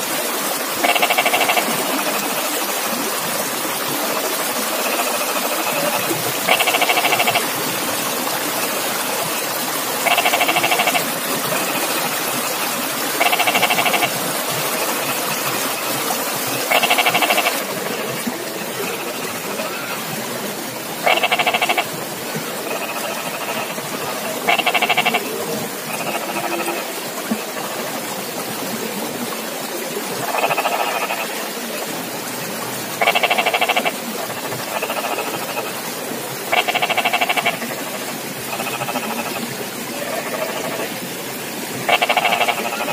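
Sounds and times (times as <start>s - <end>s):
frog croaking: 0.8s - 2.9s, 3.8s - 7.8s, 8.5s - 20.1s, 21.0s - 27.8s, 30.2s - 31.5s, 33.0s - 41.0s, 41.8s - 42.9s.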